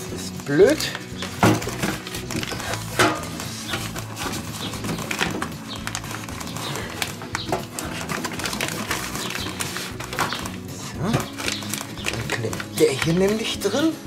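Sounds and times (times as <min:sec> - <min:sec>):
plastic bags crinkling: 0:00.0 - 0:13.9.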